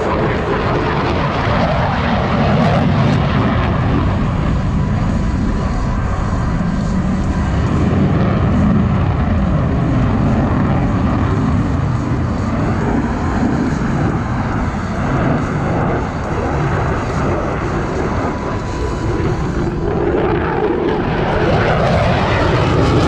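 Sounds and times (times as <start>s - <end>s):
jet engine rumble: 0.0s - 23.0s.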